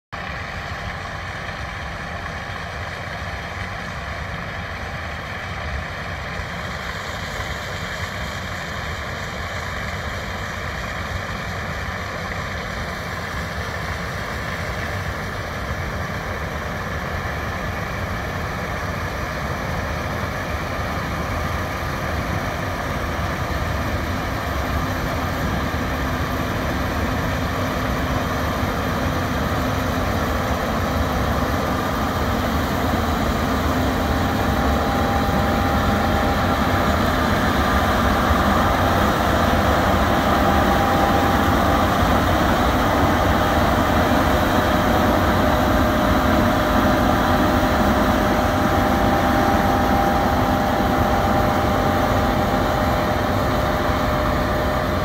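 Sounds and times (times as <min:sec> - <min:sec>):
combine harvester drone: 0:00.1 - 0:55.0.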